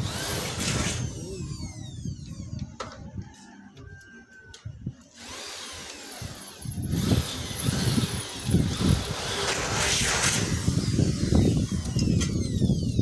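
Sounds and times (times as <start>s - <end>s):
power tool whining: 0.0s - 3.1s, 5.1s - 13.0s
wind buffeting microphone: 0.0s - 13.0s.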